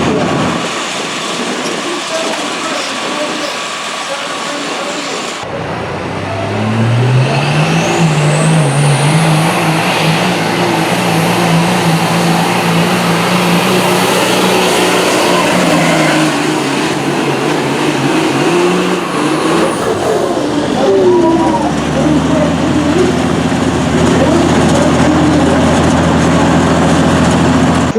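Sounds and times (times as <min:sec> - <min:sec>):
diesel pickup engine at full throttle: 0:00.0 - 0:27.9.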